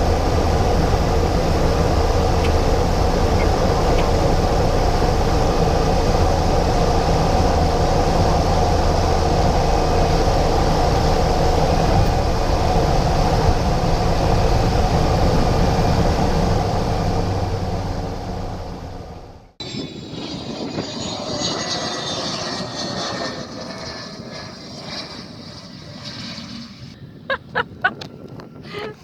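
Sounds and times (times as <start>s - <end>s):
turboprop engine drone: 0.0s - 29.0s.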